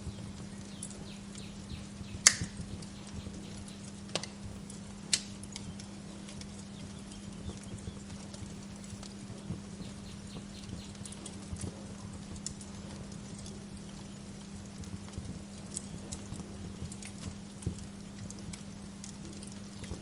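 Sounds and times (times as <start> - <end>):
sharp pops of fire: 0.0 - 20.0
steady low hum: 0.0 - 20.0
wood fire crackling: 0.0 - 20.0.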